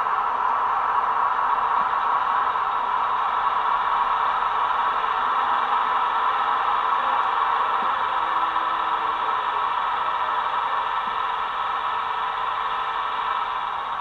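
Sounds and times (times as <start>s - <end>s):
electric locomotive rushing noise: 0.0s - 14.0s.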